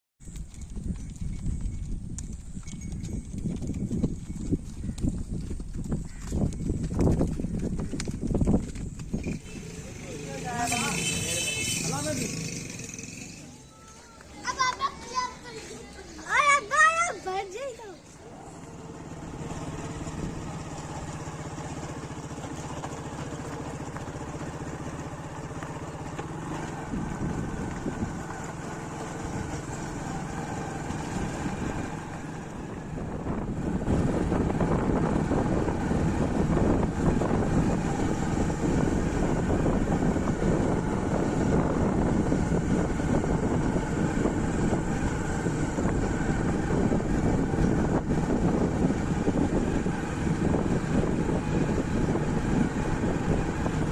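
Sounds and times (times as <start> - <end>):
engine running: 0.3 - 53.9.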